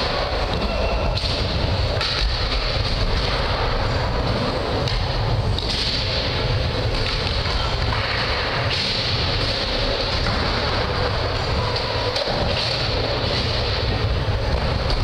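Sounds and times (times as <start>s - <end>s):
skateboard wheels rolling on wood: 0.0s - 15.0s.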